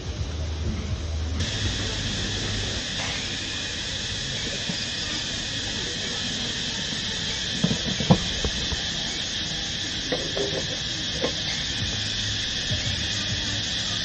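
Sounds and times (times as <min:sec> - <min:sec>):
insects buzzing: 0:01.0 - 0:14.0.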